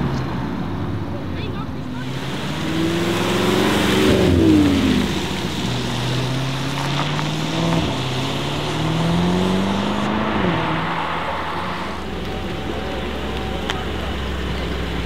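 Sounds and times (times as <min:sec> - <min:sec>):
car engine accelerating hard: 0:01.8 - 0:15.0.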